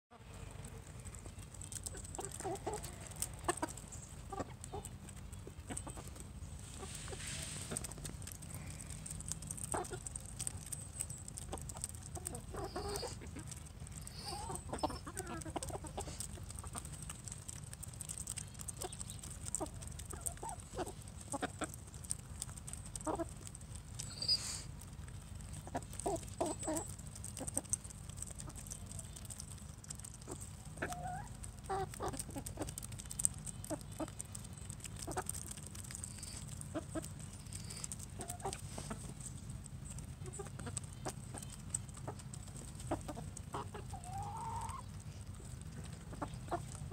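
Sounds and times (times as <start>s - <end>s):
hens clucking: 0.2s - 46.9s.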